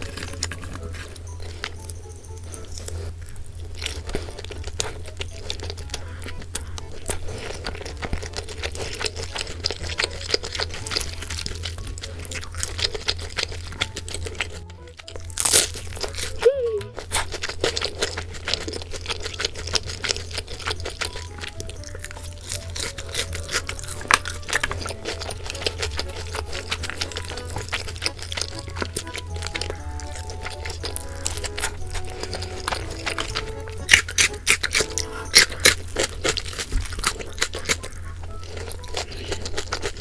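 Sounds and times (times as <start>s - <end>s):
crunchy chewing of fried chicken: 0.0s - 40.0s
soft background music: 0.0s - 40.0s.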